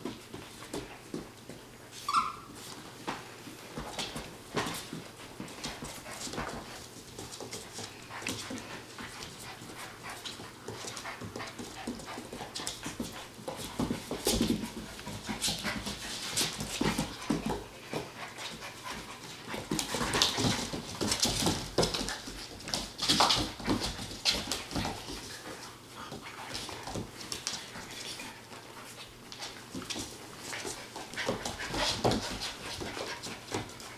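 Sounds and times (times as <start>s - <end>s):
paws clicking on wooden floor: 0.0s - 33.9s.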